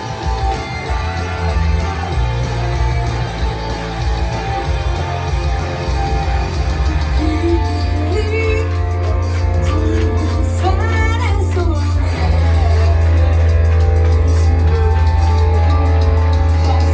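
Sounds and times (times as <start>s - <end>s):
person singing: 0.0s - 3.8s, 6.0s - 16.9s
loud rock music: 0.0s - 16.9s.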